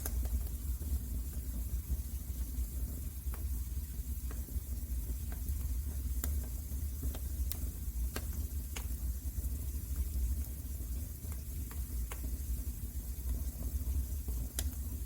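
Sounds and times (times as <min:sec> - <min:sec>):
fire crackles and pops: 0:00.0 - 0:15.0.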